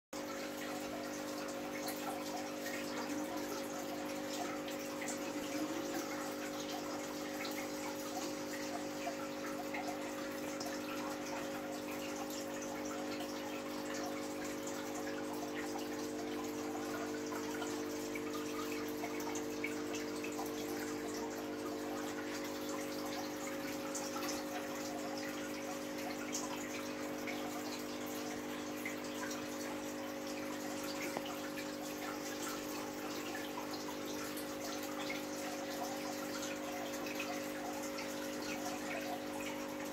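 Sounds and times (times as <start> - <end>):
aquarium water bubbling and dripping: 0.2 - 39.9.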